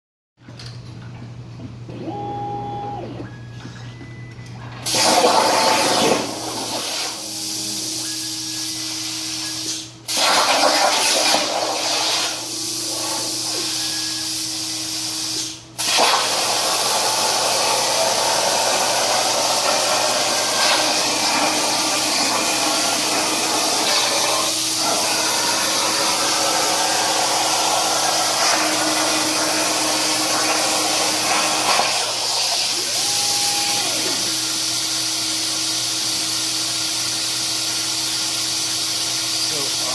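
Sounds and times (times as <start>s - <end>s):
plasma torch hissing: 4.9s - 8.0s, 8.6s - 39.9s.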